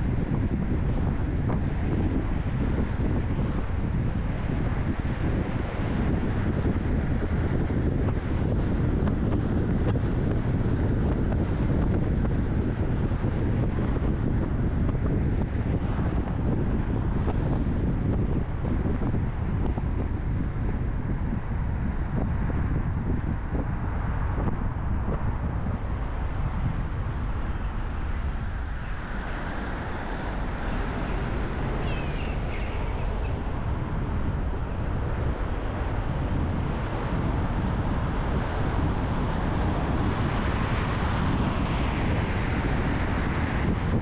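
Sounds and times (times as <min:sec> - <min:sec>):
car driving in traffic: 0:00.0 - 0:44.0.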